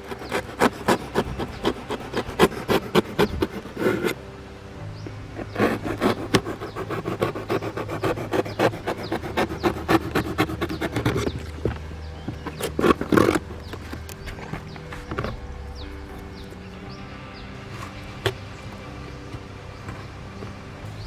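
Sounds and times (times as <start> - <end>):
low hum: 0.0 - 21.0
wood scraping and knocking: 0.0 - 21.0.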